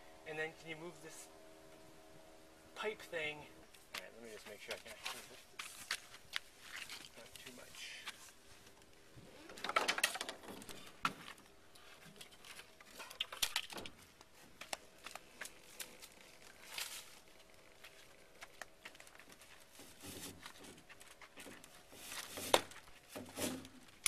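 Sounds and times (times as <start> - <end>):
crackling and scraping on boat hull: 3.9 - 24.0.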